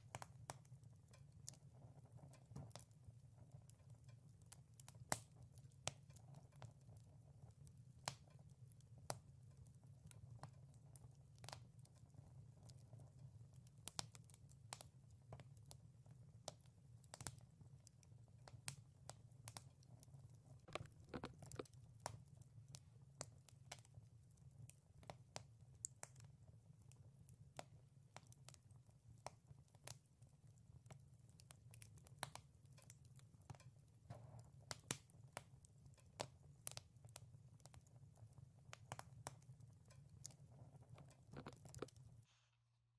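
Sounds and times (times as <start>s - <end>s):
wood fire crackling and popping: 0.0s - 42.3s.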